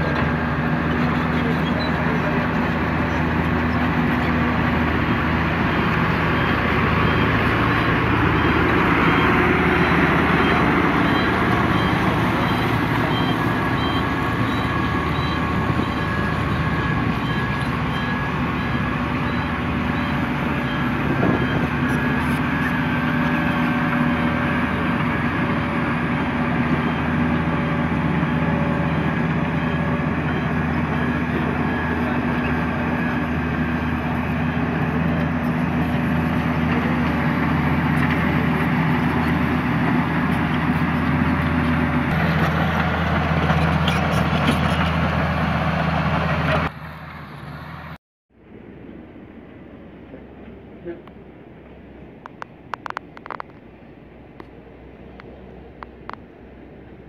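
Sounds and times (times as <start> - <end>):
road roller diesel engines running: 0.0 - 57.0.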